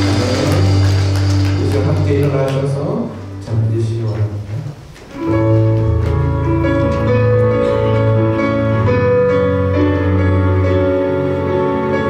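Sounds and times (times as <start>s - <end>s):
keyboard chords: 0.0s - 12.0s
low bass notes: 0.0s - 12.0s.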